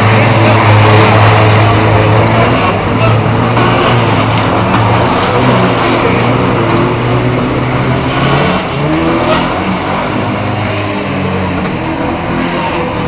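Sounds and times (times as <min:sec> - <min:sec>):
engine revving: 0:00.0 - 0:13.0
racing car engines droning: 0:00.0 - 0:13.0.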